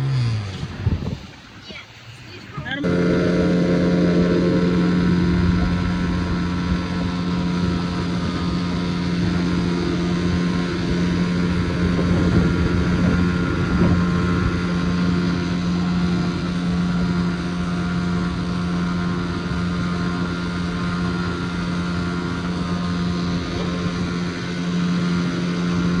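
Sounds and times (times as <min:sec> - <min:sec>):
motorboat engine running: 0:00.0 - 0:26.0
water noise: 0:00.0 - 0:26.0
wind: 0:00.0 - 0:26.0.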